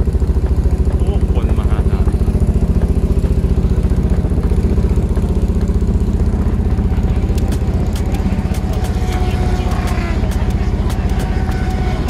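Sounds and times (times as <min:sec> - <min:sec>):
motor running with low throb: 0:00.0 - 0:12.0.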